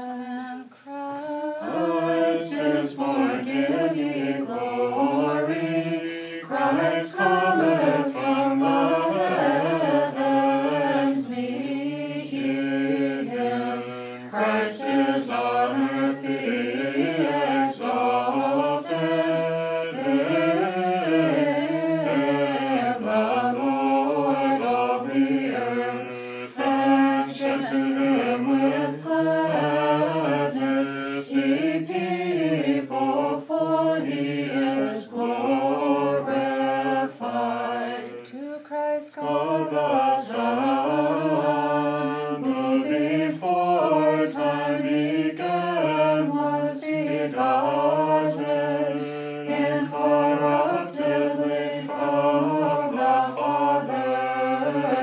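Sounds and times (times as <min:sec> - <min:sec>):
unaccompanied choir chanting: 0:00.0 - 0:55.0.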